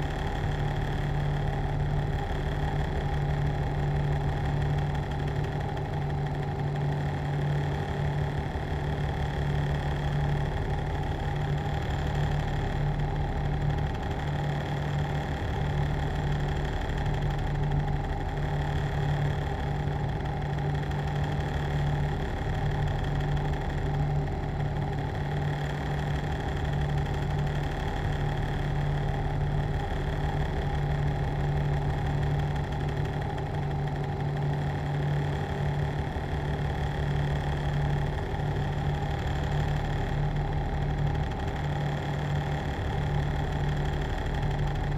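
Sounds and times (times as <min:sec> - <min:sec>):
machine humming and whining: 0:00.0 - 0:44.9.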